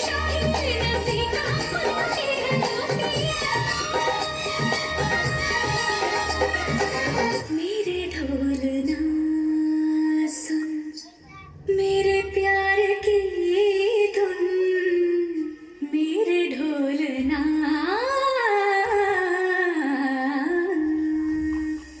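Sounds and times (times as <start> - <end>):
wordless singing voice: 0.0 - 22.0.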